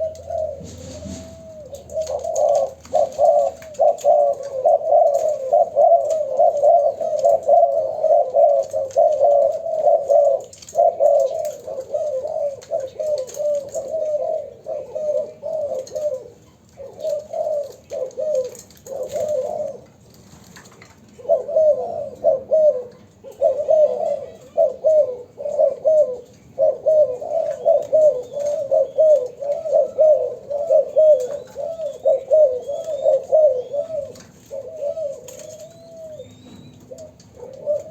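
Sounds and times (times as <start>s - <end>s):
doves cooing: 0.0s - 37.9s.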